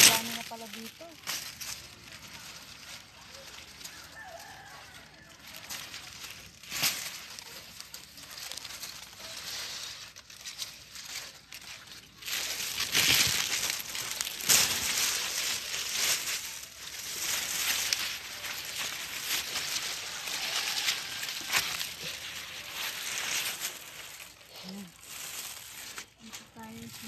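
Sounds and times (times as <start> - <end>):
leaves rustling and crumpling: 0.0 - 27.0.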